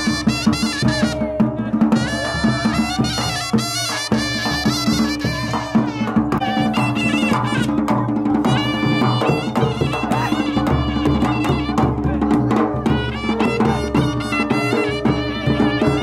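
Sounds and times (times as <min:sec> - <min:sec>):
drums beating: 0:00.0 - 0:16.0.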